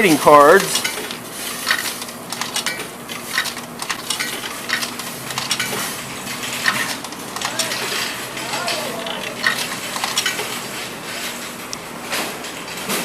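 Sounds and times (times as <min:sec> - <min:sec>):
clicks and clatter: 0:00.6 - 0:13.0.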